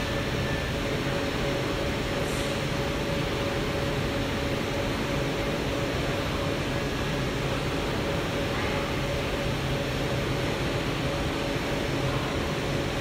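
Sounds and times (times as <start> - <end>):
constant hum tone: 0.0 - 13.0
machine fans whirring: 0.0 - 13.0.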